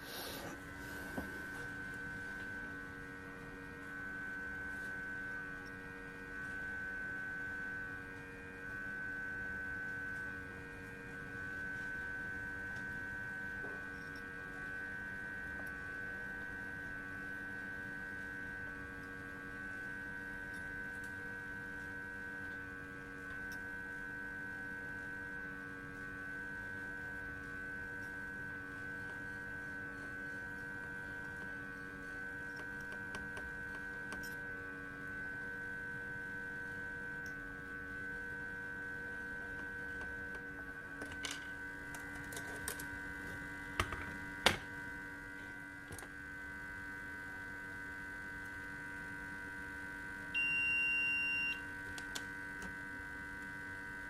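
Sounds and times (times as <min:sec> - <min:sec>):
hot air station whine: 0:00.0 - 0:54.0.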